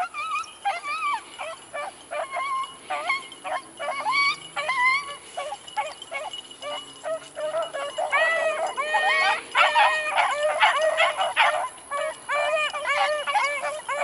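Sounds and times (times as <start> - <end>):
hounds baying: 0.0 - 14.0.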